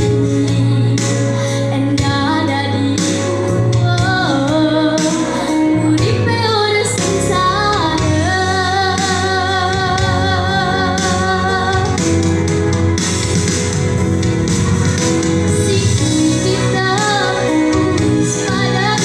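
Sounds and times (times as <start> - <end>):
girl singing into a microphone: 0.0 - 12.3, 15.5 - 19.0
instrumental accompaniment: 0.0 - 19.0.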